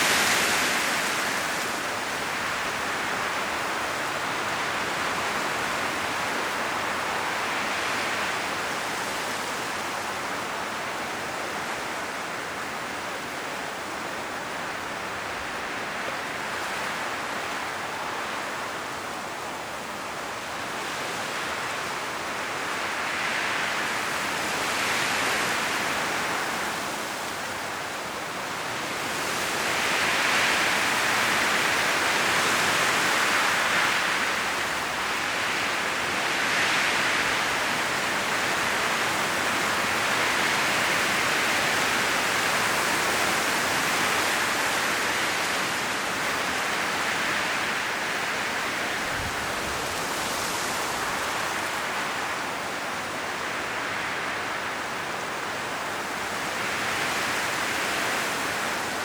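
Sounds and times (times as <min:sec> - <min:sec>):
wind rustling tree leaves: 0:00.0 - 0:59.0.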